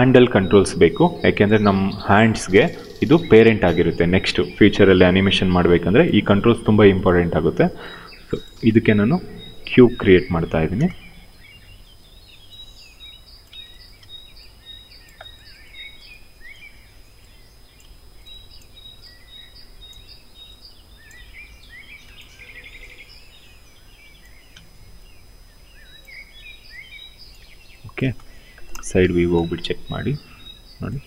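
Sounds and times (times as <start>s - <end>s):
birds chirping: 0.0s - 31.0s
buzzy bird trill: 0.0s - 31.0s
low room noise: 0.0s - 31.0s.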